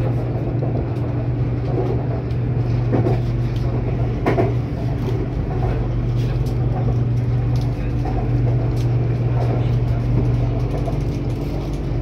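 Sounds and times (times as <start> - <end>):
train carriage running: 0.0 - 12.0.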